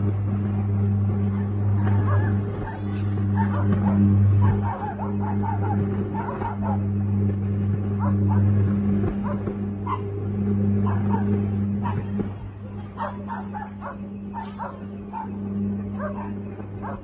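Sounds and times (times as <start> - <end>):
distant dogs barking and yipping: 0.0 - 17.0
loud steady low hum: 0.0 - 17.0.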